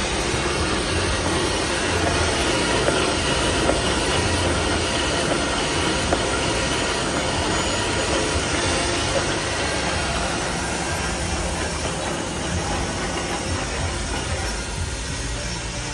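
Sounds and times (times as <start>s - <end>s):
cutting machine running: 0.0s - 15.9s.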